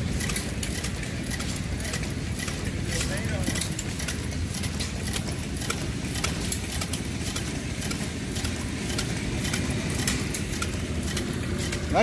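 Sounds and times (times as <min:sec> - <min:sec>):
light clicking of moving parts: 0:00.0 - 0:12.0
model gas engine running: 0:00.0 - 0:12.0.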